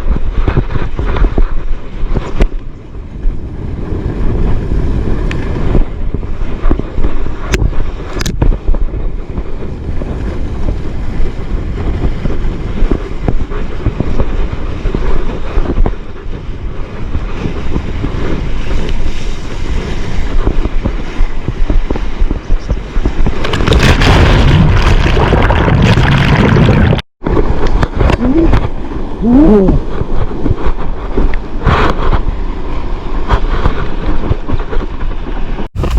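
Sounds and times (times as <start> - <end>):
sea rushing: 0.0 - 35.9
wind buffeting microphone: 0.0 - 35.9.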